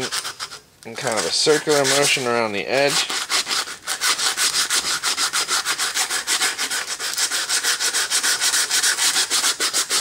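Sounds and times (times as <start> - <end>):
sandpaper scrubbing copper pipe: 0.0 - 10.0.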